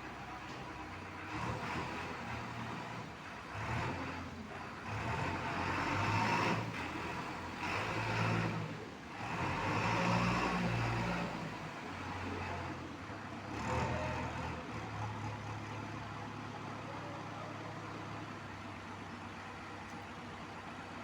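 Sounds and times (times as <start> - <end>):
diesel engine revving: 0.9 - 18.2.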